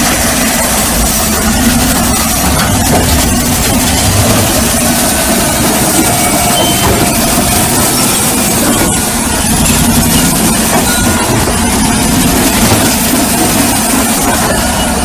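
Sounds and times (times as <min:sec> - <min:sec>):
heavy machine engine rumbling: 0:00.0 - 0:15.0.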